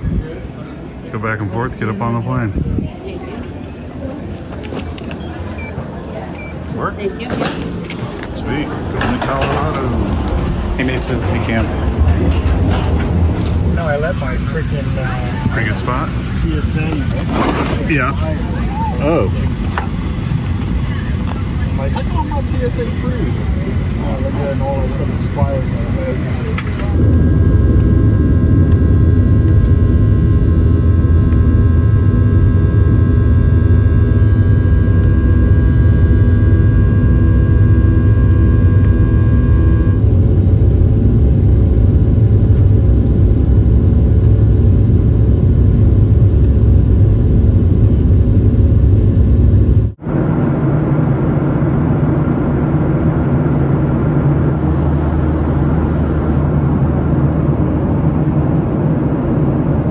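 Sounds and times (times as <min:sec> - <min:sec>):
jet engines rumbling: 0:00.0 - 0:59.9
whining fan tones: 0:02.8 - 0:59.9.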